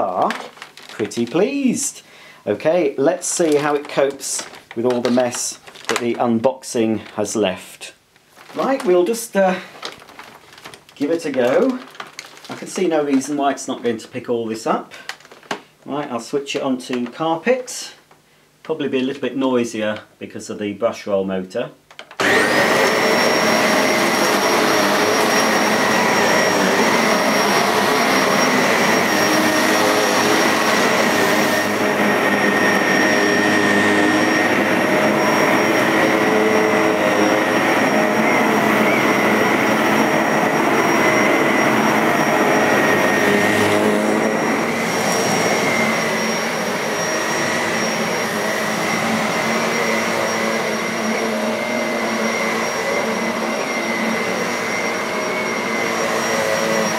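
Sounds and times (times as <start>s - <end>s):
vacuum cleaner whining: 0.0s - 7.6s, 8.4s - 17.9s, 22.2s - 56.9s.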